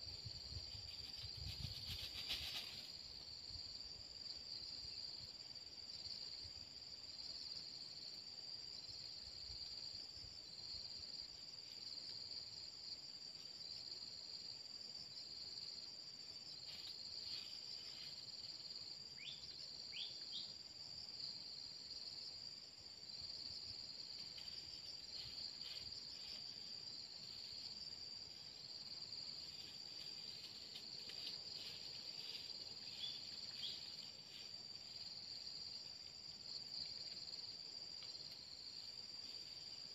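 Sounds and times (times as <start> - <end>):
high continuous insect tone: 0.0 - 39.9
insect chorus pulsing buzz: 0.0 - 39.9.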